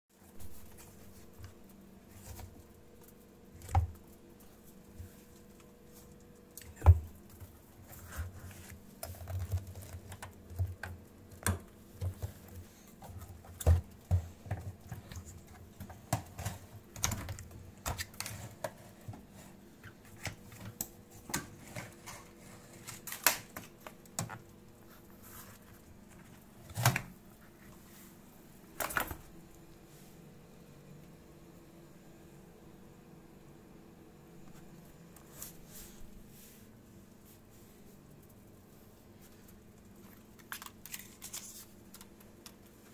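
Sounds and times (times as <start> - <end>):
faint steady hum: 0.1 - 42.9.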